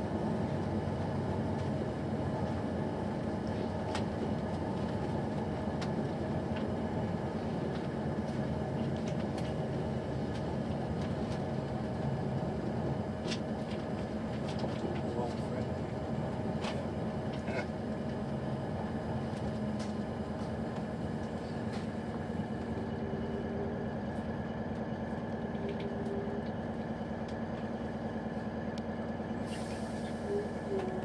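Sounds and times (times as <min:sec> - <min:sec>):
train rumble inside coach: 0:00.0 - 0:31.0.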